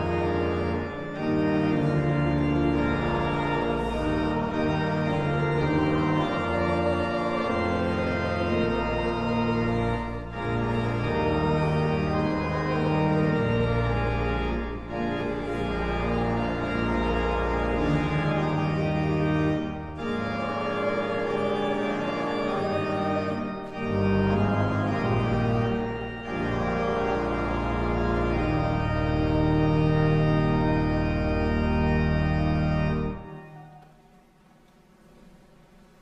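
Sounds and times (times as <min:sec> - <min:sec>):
pipe organ chords: 0:00.0 - 0:35.4.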